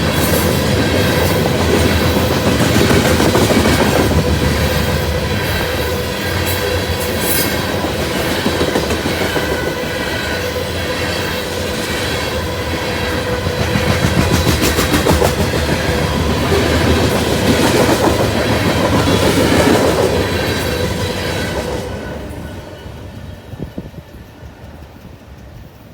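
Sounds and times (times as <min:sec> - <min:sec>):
freight train wheels clattering: 0:00.0 - 0:25.9
wheels ringing on rails: 0:00.0 - 0:25.9.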